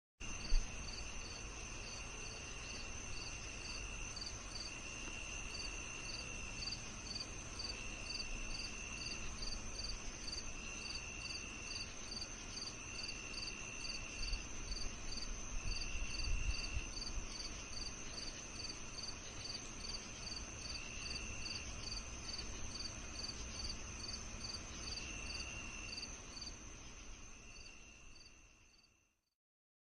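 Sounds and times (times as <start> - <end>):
repeated insect chirps: 0.2 - 29.0
lower insect trill: 0.2 - 29.2.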